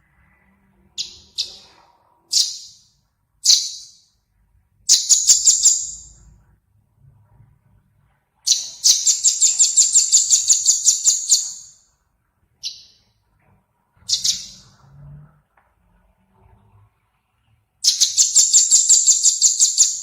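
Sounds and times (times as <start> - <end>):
songbird chirping: 0.0 - 4.2, 4.8 - 6.4, 8.0 - 15.3, 16.0 - 20.0.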